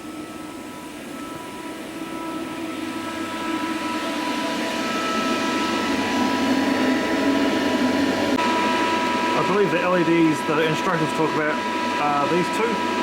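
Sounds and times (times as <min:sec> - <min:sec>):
machine fan hum: 0:00.0 - 0:13.0
steady whining tones: 0:00.0 - 0:13.0.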